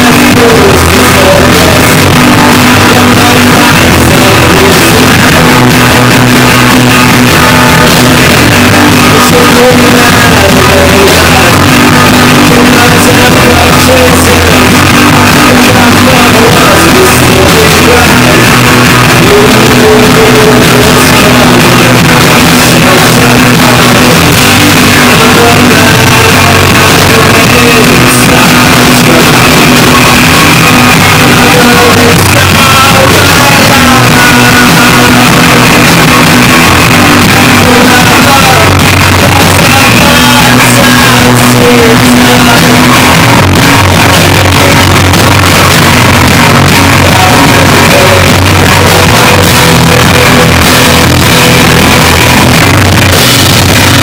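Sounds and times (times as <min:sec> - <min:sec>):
distorted live rock band: 0:00.0 - 0:54.0
person singing: 0:00.0 - 0:54.0.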